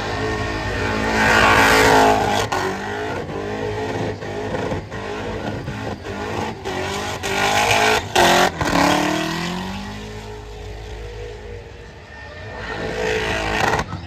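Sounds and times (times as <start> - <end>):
car engine revving hard: 0.0 - 10.6, 12.6 - 14.0.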